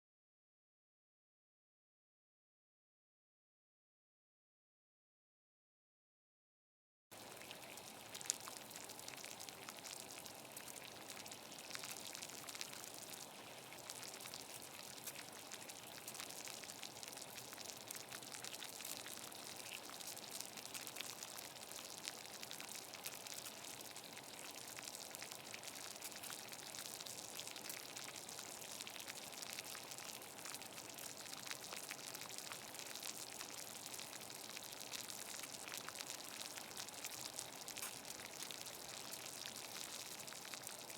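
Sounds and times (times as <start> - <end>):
water boiling in a pot: 7.1 - 40.9.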